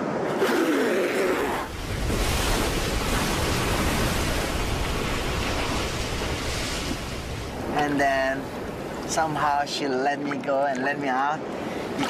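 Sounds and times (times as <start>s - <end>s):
wave breaking over reef: 0.0s - 9.8s.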